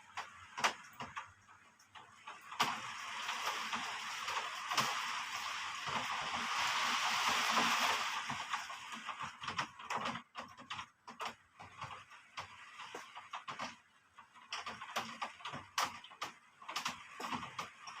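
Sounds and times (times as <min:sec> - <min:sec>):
heavy wind-driven rain: 0:00.0 - 0:18.0.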